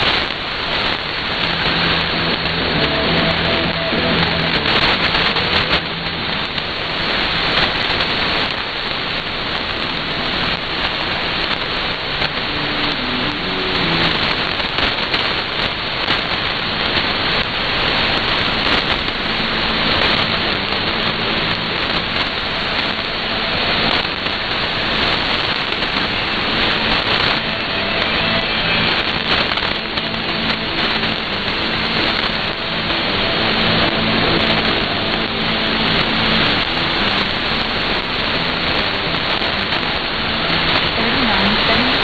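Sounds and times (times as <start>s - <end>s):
faint music through static: 0.0s - 42.0s
radio static hiss: 0.0s - 42.0s.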